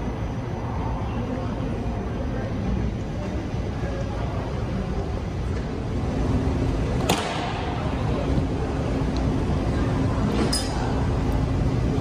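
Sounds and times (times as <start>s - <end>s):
faint steady hum: 0.0s - 12.0s
low rumble and hiss: 0.0s - 12.0s.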